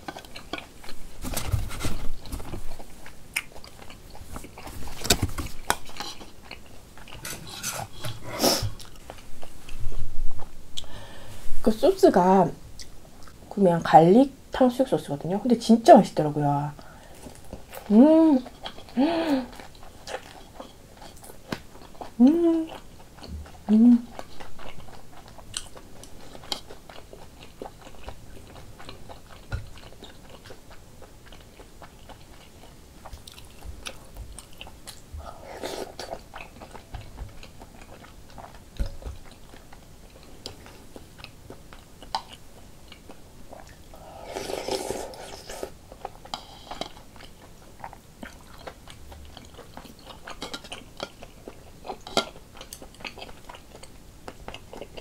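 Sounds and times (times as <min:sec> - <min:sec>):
chewing mouth sounds: 0:00.0 - 0:01.0, 0:02.2 - 0:08.1, 0:17.2 - 0:55.0.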